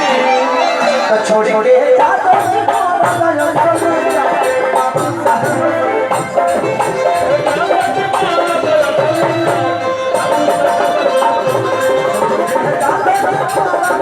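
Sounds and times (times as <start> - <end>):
held folk melody line: 0.0 - 14.0
shaker-like percussion beat: 2.3 - 14.0.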